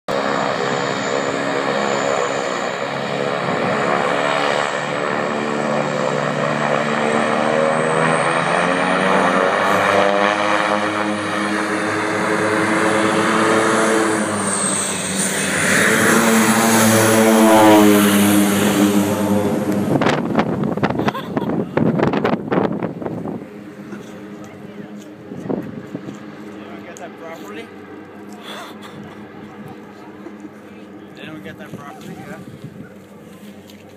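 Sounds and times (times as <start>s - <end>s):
turboprop plane propeller drone: 0.1s - 33.9s.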